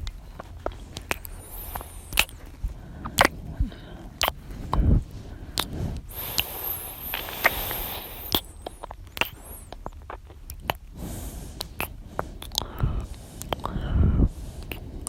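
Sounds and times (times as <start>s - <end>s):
wet mouth clicks and smacks: 0.0s - 4.9s, 5.5s - 15.0s
breathing: 0.5s - 9.9s, 10.9s - 15.0s.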